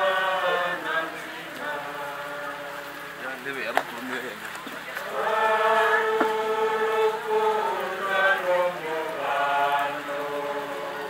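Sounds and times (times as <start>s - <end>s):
voices singing together: 0.0s - 3.2s, 4.9s - 11.0s.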